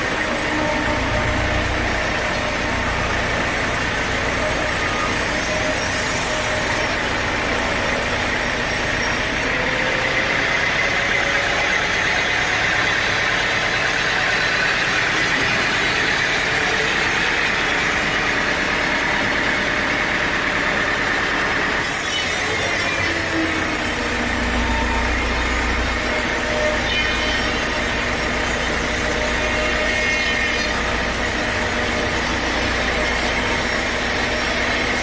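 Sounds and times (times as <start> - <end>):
engine-driven saw drone: 0.0 - 35.0.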